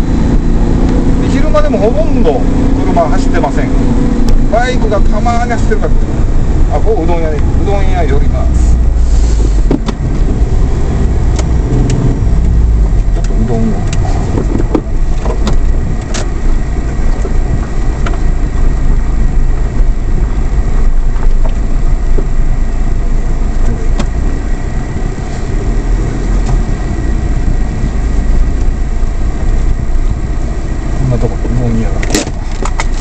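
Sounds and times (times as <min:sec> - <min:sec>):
road and cabin noise: 0:00.0 - 0:33.0.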